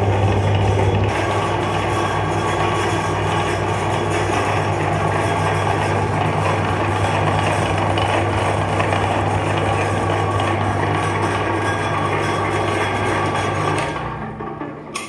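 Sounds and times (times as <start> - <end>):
auger grinding wooden sticks: 0.0 - 15.0
meat grinder motor humming: 0.0 - 15.0.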